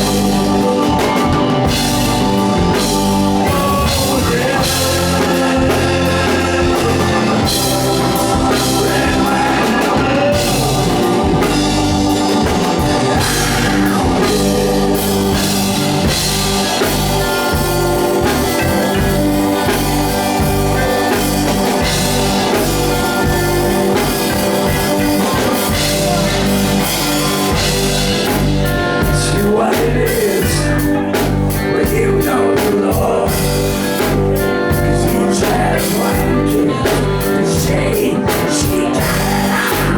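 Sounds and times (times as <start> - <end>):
blues-rock band playing live: 0.0 - 39.9.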